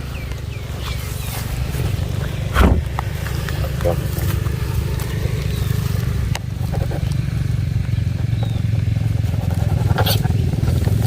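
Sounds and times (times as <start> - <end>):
motorbike engine idling: 0.0 - 11.0.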